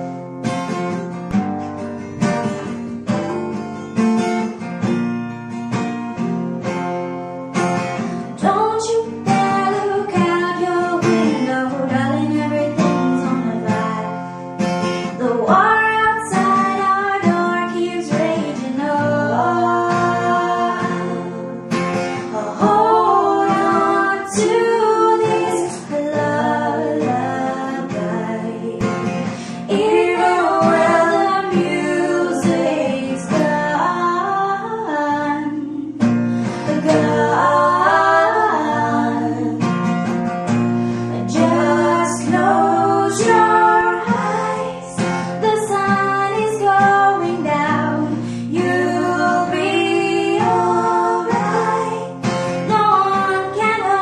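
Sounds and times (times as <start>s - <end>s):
acoustic guitar: 0.0s - 54.0s
woman singing: 8.3s - 39.9s, 41.0s - 54.0s.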